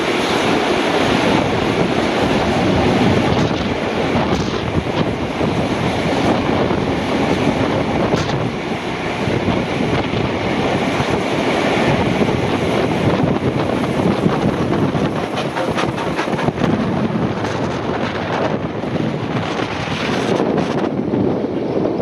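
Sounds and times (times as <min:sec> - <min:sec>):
trains rumbling and clattering: 0:00.0 - 0:22.0
wind buffeting microphone: 0:00.0 - 0:22.0.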